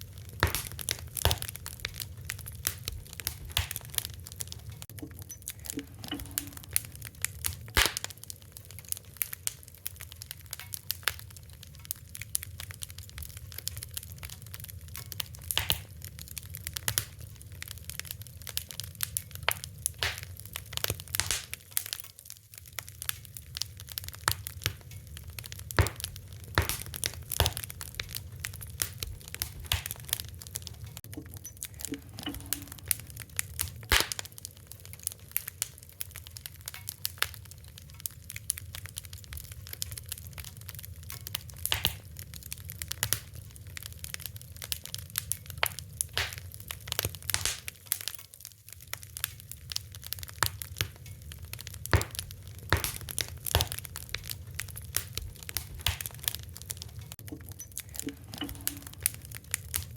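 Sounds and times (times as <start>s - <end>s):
low rumble of burning: 0.0s - 59.9s
wood fire crackling: 0.0s - 59.9s.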